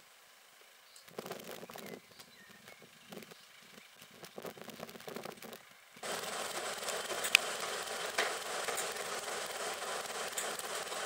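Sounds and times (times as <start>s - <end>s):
locomotive engine idling: 1.6s - 11.0s.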